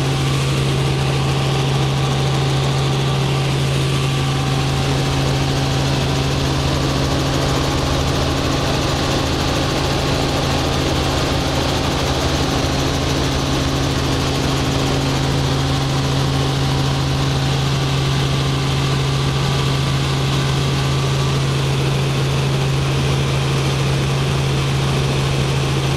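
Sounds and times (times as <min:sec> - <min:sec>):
helicopter running: 0:00.0 - 0:25.9.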